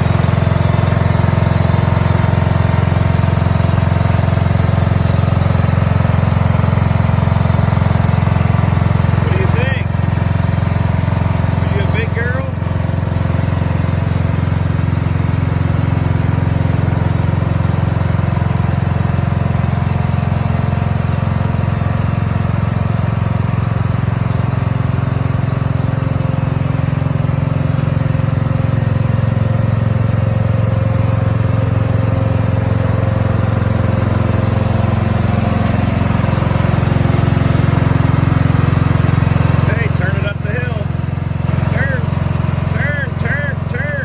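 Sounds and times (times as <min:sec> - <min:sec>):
riding lawn mower engine: 0:00.0 - 0:44.0.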